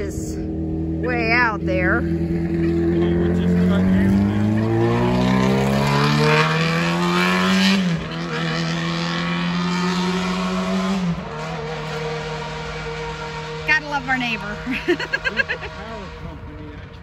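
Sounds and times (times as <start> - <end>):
engine accelerating through gears: 0.0 - 17.0.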